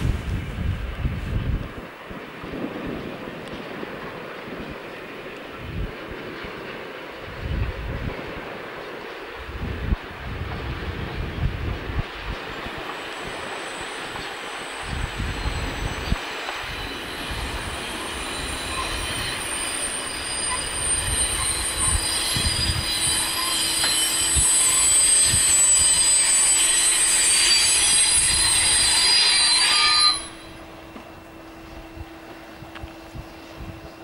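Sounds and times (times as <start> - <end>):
train wheels and brakes squealing: 0.0 - 34.0.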